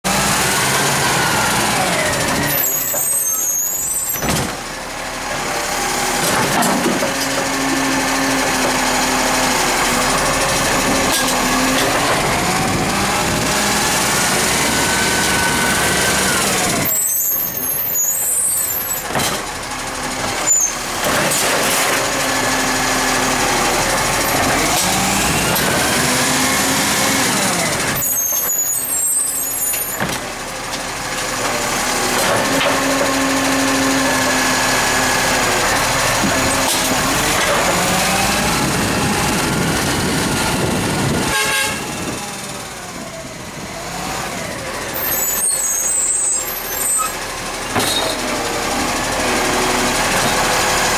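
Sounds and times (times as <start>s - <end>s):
garbage truck diesel engine revving: 0.1s - 50.9s.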